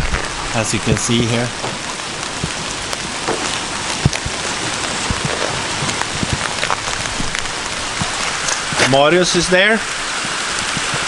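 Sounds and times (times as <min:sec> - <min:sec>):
hail hissing: 0:00.0 - 0:11.0
hailstones ticking on surfaces: 0:00.0 - 0:11.0.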